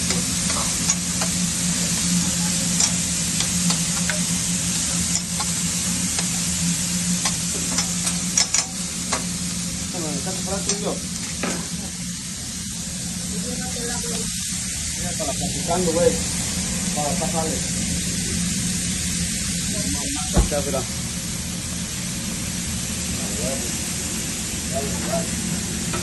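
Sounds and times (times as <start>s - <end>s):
food sizzling on griddle: 0.0s - 26.0s
steady low hum: 0.0s - 26.0s.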